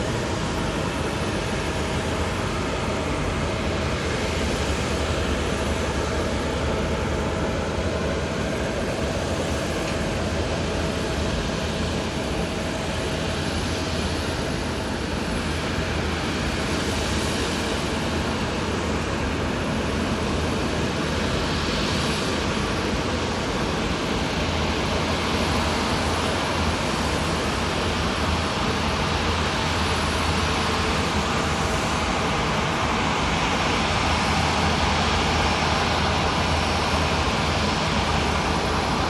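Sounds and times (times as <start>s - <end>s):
jet engine roar: 0.0s - 39.0s.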